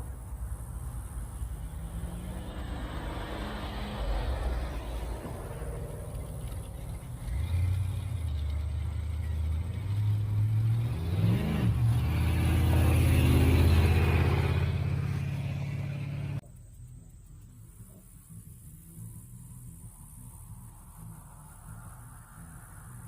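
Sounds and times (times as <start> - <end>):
car engine rumbling and revving: 0.0 - 23.0.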